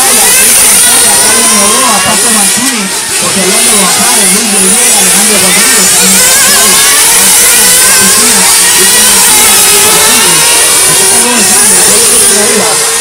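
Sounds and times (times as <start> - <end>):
small model car engines revving: 0.0 - 13.0.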